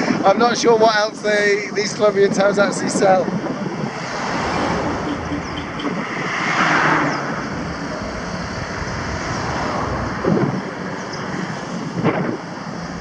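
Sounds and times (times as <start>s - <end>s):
road traffic noise: 0.0s - 13.0s
wind rushing over microphone: 0.0s - 13.0s.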